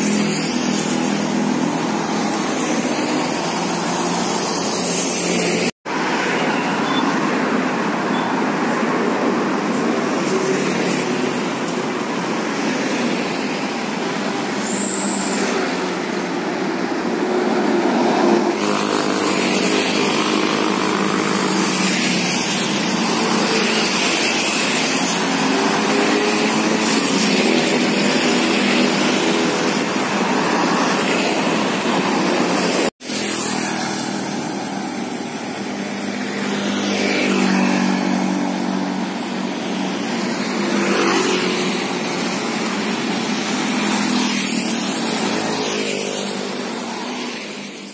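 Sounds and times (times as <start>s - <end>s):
vehicles driving past: 0.0s - 47.9s.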